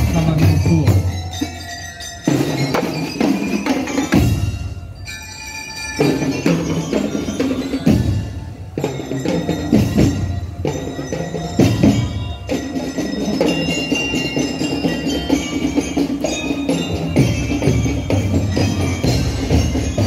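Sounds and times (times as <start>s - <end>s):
bell-like melody: 0.0s - 20.0s
marching band drums: 2.2s - 5.1s, 6.0s - 20.0s.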